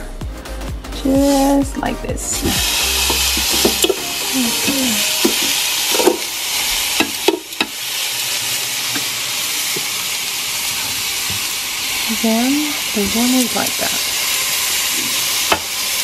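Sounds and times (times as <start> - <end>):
meat sizzling on a grill: 2.2 - 16.0.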